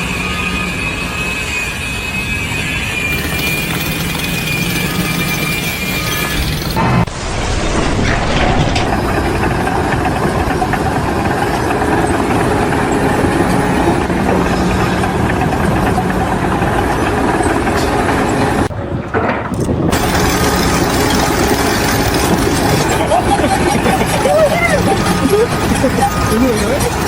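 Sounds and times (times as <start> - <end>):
large engine running: 3.1 - 18.7, 19.9 - 27.0.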